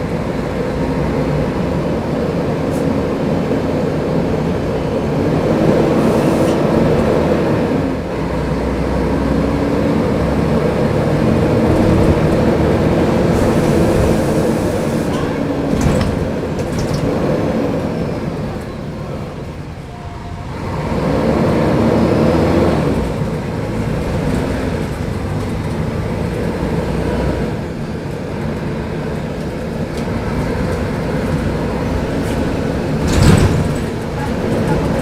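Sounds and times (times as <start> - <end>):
bus diesel engine running: 0.0 - 35.0
road and body noise: 0.0 - 35.0.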